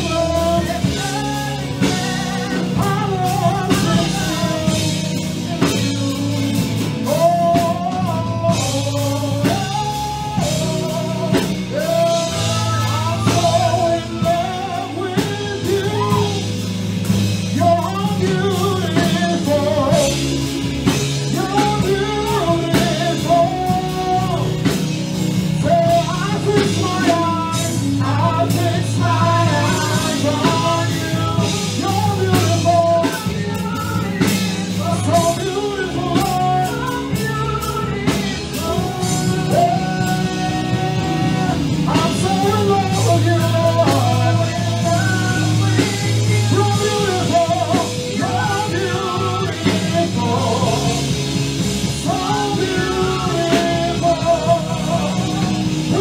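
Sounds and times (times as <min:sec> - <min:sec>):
drums: 0:00.0 - 0:56.0
keyboard: 0:00.0 - 0:56.0
person singing: 0:00.0 - 0:56.0
steady low notes: 0:00.0 - 0:56.0.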